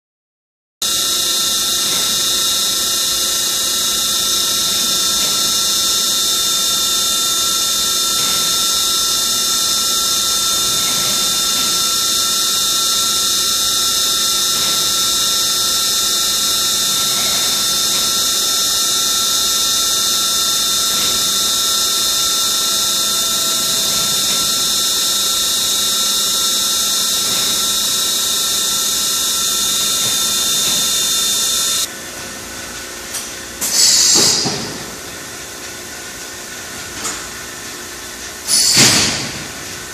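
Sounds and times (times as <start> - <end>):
high machine whine: 0.8 - 39.9
machine hum and hiss: 0.8 - 39.9.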